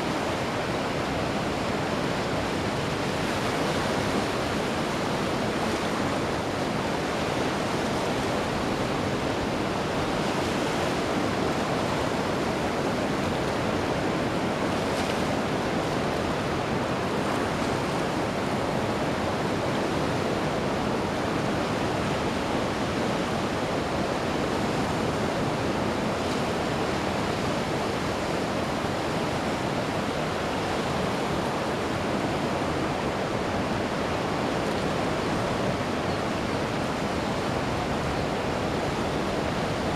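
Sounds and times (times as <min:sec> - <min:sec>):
ocean surf on beach: 0:00.0 - 0:39.9.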